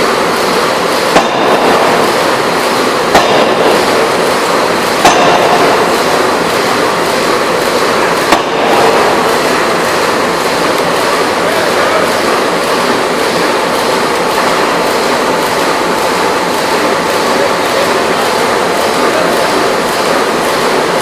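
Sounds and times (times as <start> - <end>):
loud steady machinery noise: 0.0 - 21.0
forging hammer blows: 1.0 - 21.0.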